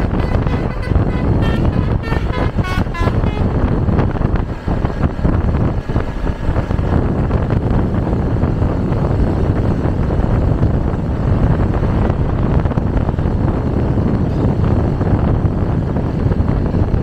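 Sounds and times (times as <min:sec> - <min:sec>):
road and engine rumble: 0:00.0 - 0:17.0
wind buffeting microphone: 0:00.0 - 0:17.0.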